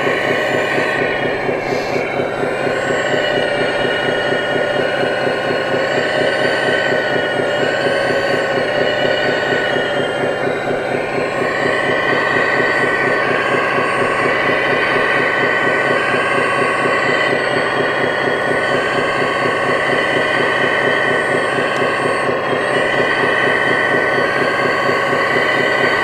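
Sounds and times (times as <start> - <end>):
hydraulic pump whining: 0.0 - 26.0.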